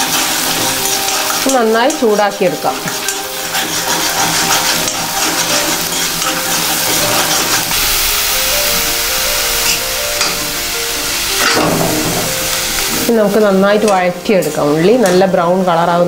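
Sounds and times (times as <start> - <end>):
steel spoon scraping pan: 0.0 - 15.3
paste sizzling in hot oil: 0.0 - 15.8.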